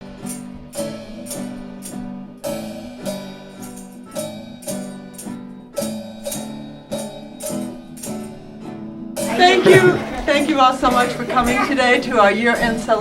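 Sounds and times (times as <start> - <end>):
rhythmic struck chords: 0.0 - 13.0.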